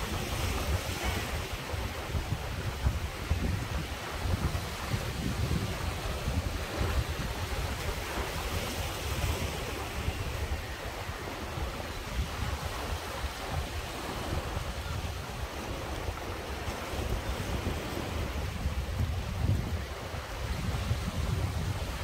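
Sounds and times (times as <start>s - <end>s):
surf over rocky shore: 0.0s - 22.0s
wind buffeting microphone: 0.0s - 22.0s.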